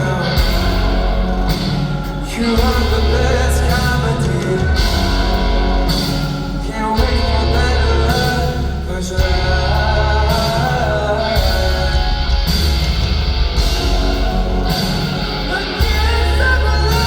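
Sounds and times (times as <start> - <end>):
person singing: 0.0 - 13.0, 13.6 - 17.0
live rock band playing: 0.0 - 17.0.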